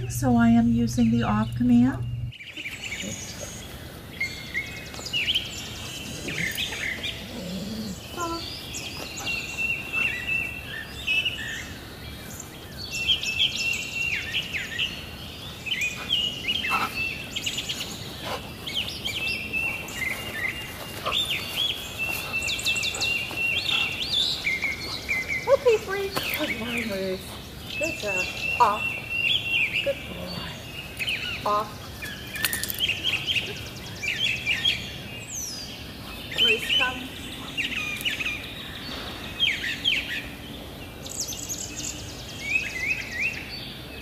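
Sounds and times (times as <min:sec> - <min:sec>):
songbirds chirping and calling: 0:00.0 - 0:44.0.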